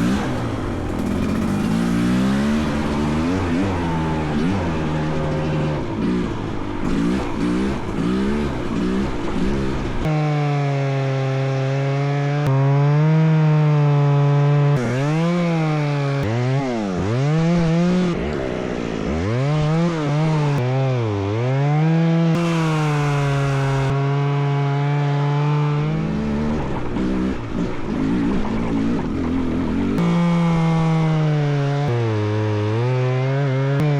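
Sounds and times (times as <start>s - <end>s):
chainsaw cutting tree: 0.0s - 33.9s.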